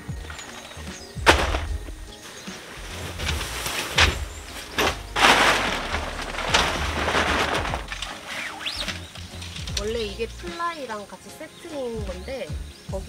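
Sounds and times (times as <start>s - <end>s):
tent fabric rustling: 0.0s - 11.2s.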